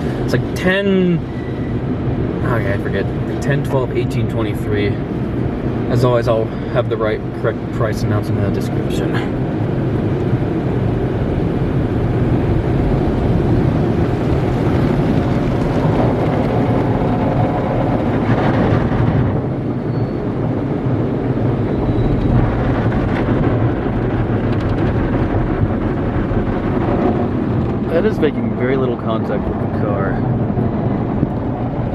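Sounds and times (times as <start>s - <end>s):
low mechanical rumble: 0.0s - 31.9s.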